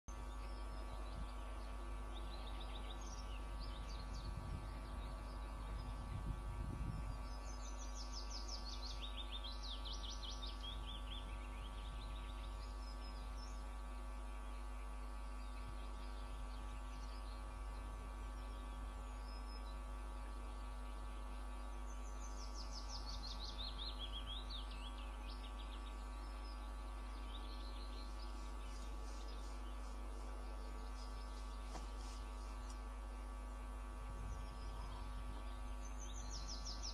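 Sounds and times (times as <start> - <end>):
electrical hum: 0.1 - 36.9.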